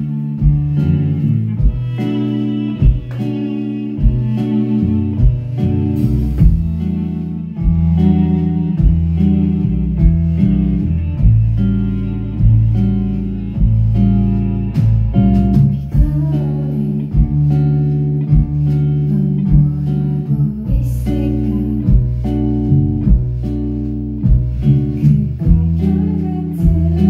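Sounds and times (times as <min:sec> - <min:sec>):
electric guitar picking: 0:00.0 - 0:27.0
low bass line: 0:00.0 - 0:27.0
soft beat: 0:00.0 - 0:27.0.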